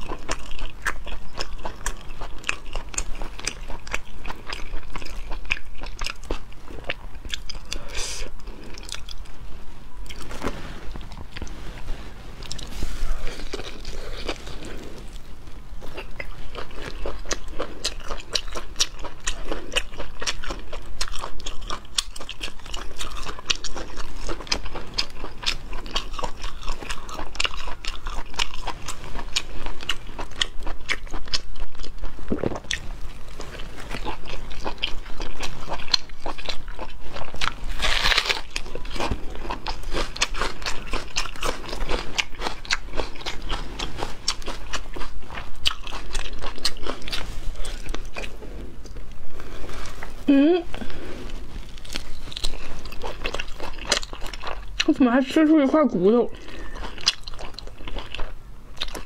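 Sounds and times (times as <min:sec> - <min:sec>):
person biting and chewing meat: 0:00.0 - 0:09.4, 0:12.4 - 0:54.9, 0:56.3 - 0:59.0.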